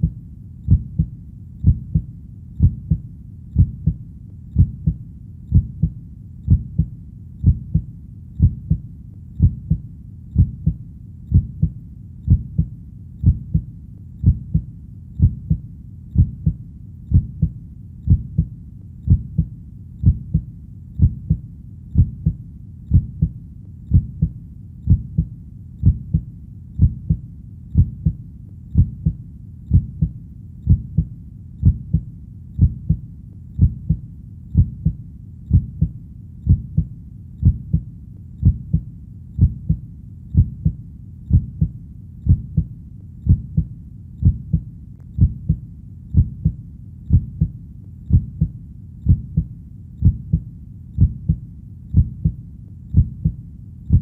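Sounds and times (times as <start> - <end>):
human heartbeat: 0.0 - 54.0.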